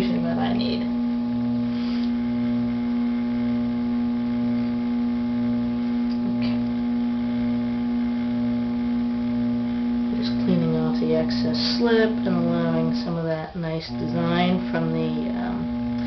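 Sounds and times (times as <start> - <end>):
potter's wheel motor humming: 0.0 - 16.0.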